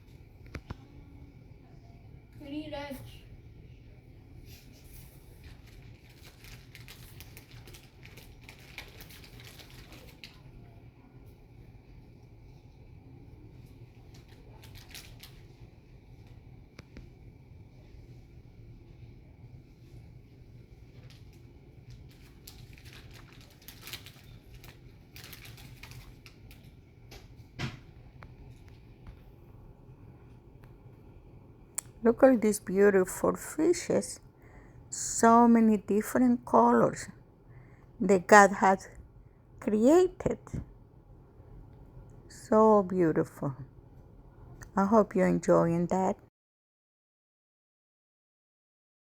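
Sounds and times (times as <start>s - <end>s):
faint low hum: 0.0s - 46.3s.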